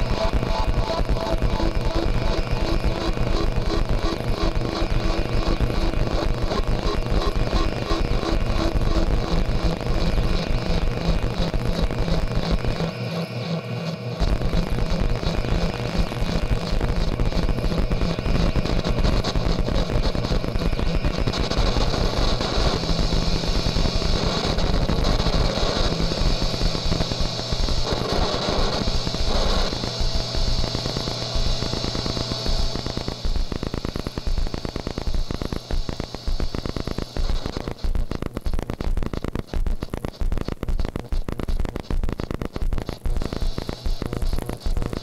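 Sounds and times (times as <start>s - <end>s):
buzzing electronic drone: 0.0s - 45.0s
low hum: 0.0s - 45.0s.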